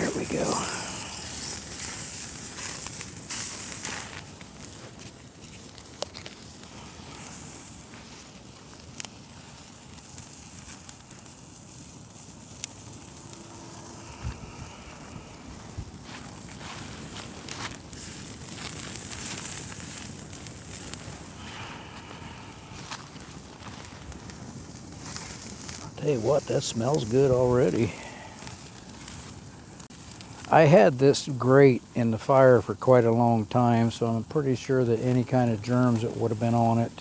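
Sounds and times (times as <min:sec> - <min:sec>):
campfire crackling and popping: 0:00.0 - 0:37.0
meat sizzling on a grate: 0:00.0 - 0:37.0.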